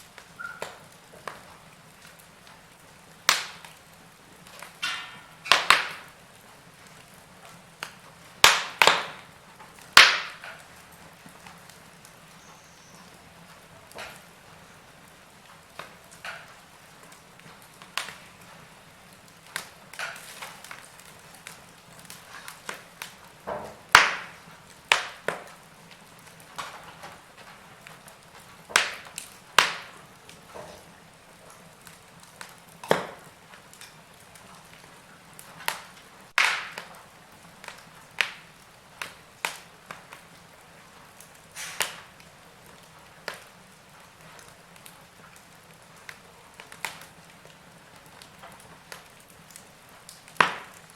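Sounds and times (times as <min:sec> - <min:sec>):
faint steady hiss: 0:00.0 - 0:50.9
wood fire crackling and popping: 0:00.0 - 0:50.9.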